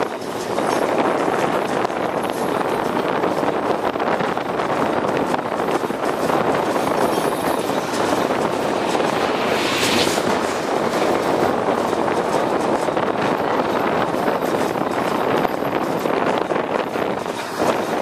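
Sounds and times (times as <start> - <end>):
train running over bridge: 0.0 - 18.0
wind on microphone: 0.0 - 18.0.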